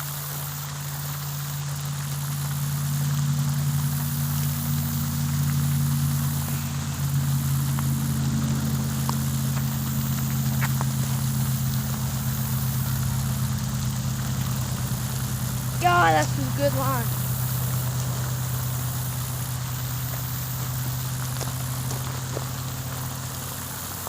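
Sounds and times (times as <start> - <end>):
engine humming: 0.0 - 24.0
faint ticks: 0.4 - 16.4, 17.1 - 23.8.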